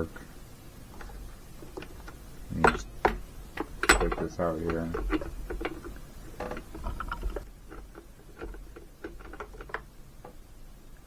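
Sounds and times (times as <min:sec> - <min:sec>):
metal tool clicking and tapping: 0:01.0 - 0:10.4.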